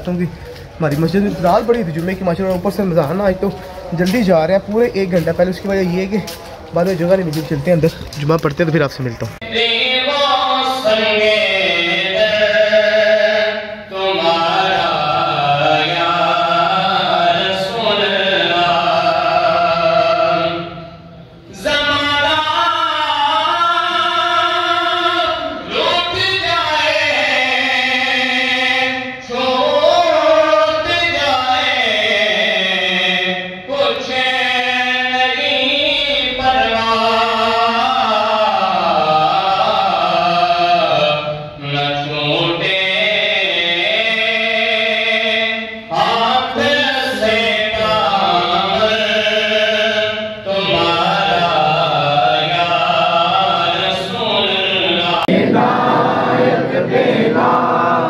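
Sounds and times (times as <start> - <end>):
man chanting religious recitation: 0.0 - 58.0.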